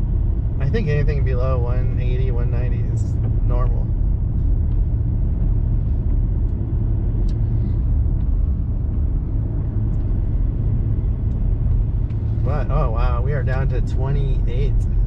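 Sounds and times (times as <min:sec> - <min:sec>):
diesel engine and tyres rumbling: 0:00.0 - 0:15.0.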